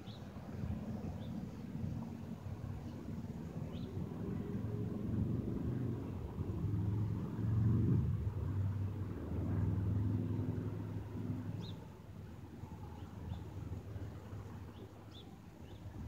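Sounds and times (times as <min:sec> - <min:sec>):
distant engine droning: 0:00.0 - 0:16.0.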